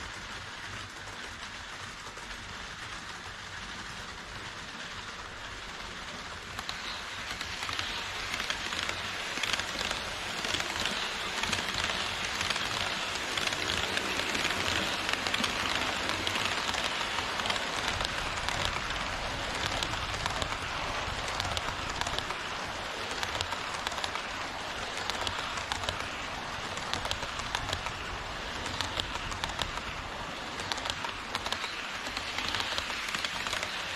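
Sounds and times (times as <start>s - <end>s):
model train wheels rattling on rails: 0.0s - 33.9s.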